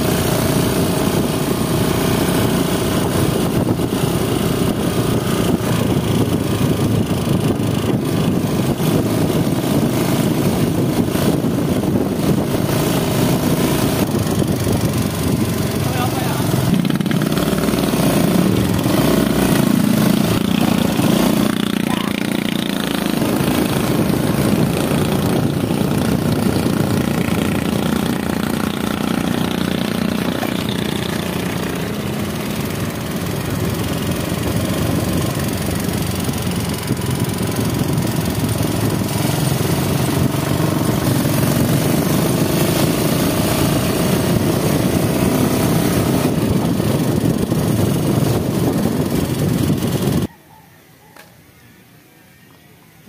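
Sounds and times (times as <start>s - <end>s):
small motorcycle engine running: 0.0s - 50.3s
road noise: 0.0s - 53.0s.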